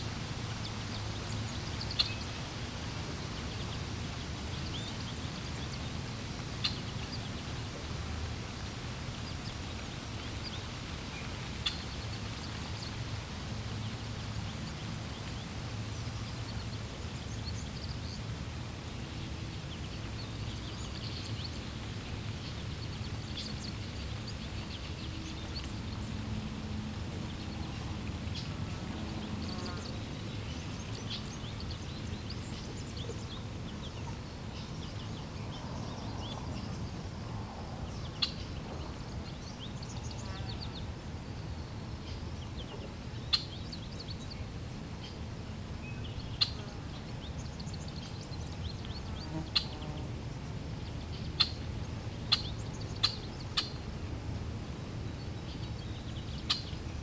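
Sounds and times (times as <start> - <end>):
flowing water: 0.0 - 49.2
small birds chirping: 0.5 - 37.2, 37.8 - 57.0.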